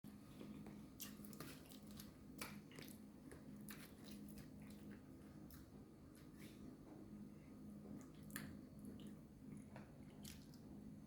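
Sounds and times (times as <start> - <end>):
low steady hum: 0.1 - 11.0.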